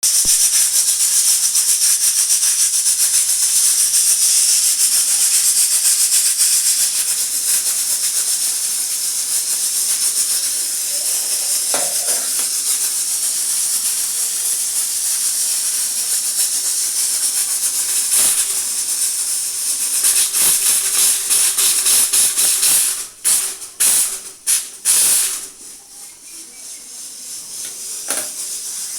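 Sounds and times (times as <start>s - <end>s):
pressure cooker whistle hissing: 0.0s - 28.9s.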